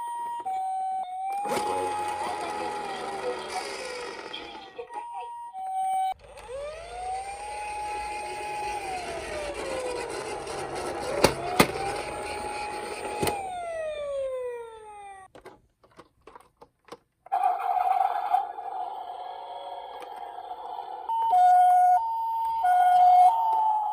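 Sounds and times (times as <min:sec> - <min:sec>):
toy electronic siren wailing: 0:00.0 - 0:15.3, 0:17.3 - 0:23.9.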